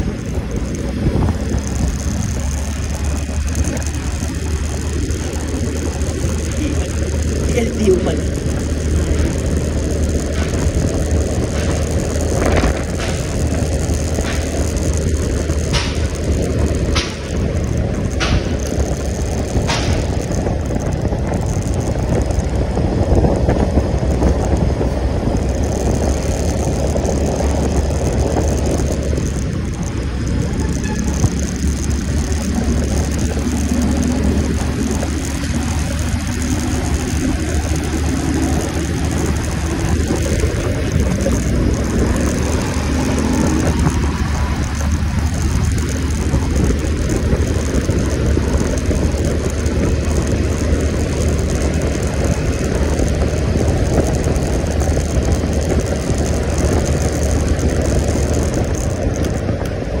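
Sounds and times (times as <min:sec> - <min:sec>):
faint engine hum: 0:00.0 - 1:00.0
road noise: 0:00.0 - 1:00.0
wind buffeting: 0:00.0 - 1:00.0.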